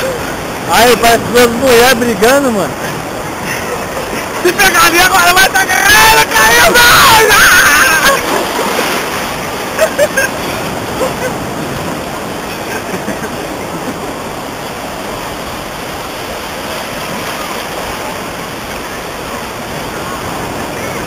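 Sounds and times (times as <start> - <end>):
sea surf rushing: 0.0 - 21.0
water splashing in shallows: 2.7 - 21.0.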